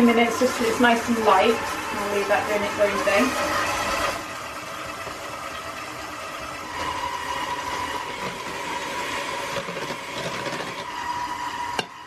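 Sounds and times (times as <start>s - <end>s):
stand mixer running: 0.0s - 12.0s.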